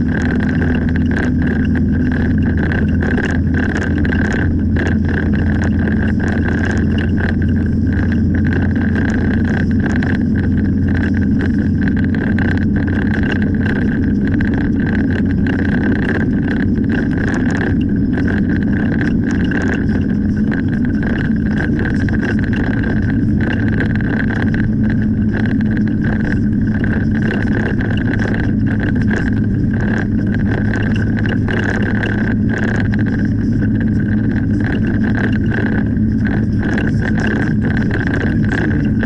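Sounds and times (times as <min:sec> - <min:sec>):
car engine and tyre noise: 0:00.0 - 0:39.0
small clicks or rattles: 0:00.0 - 0:39.0
steady high whine: 0:00.0 - 0:39.0.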